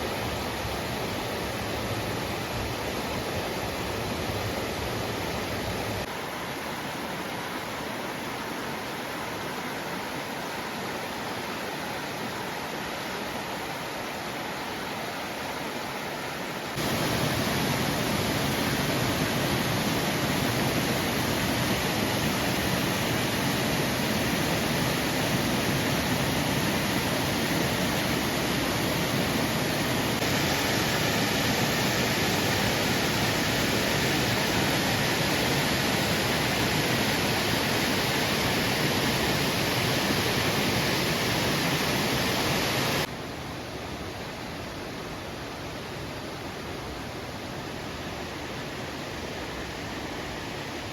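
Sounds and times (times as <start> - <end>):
waterfall roaring: 0.0 - 43.2.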